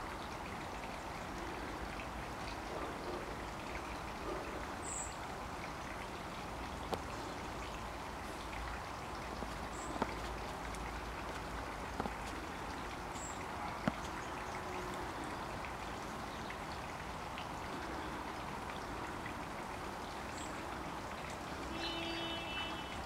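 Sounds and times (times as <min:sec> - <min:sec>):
water dripping and trickling: 0:00.0 - 0:23.0.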